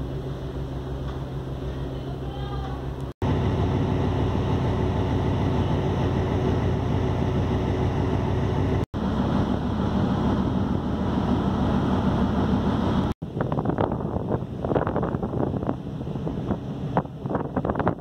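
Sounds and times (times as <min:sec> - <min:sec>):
ship engine running: 0:00.0 - 0:18.0
wind rumble on microphone: 0:03.2 - 0:18.0.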